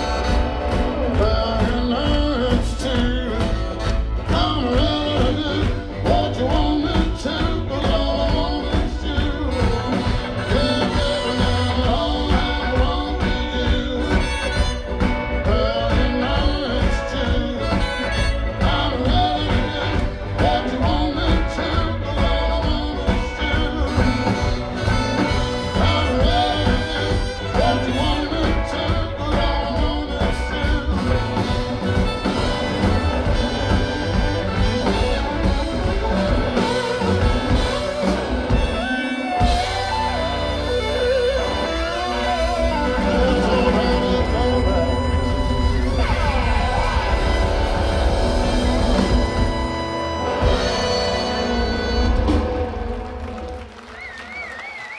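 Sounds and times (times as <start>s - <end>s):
drum kit beat: 0.0s - 53.8s
bass: 0.0s - 54.9s
electric guitars: 0.0s - 54.9s
saxophones: 0.0s - 54.9s.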